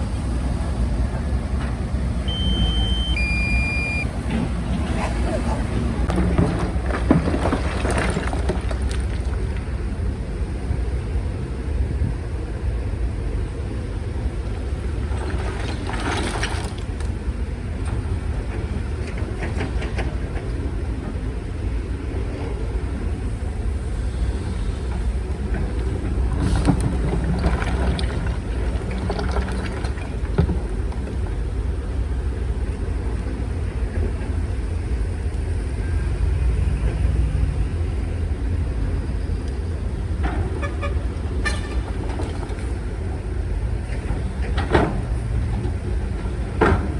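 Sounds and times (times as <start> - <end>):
diesel machinery rumbling: 0.0 - 46.9.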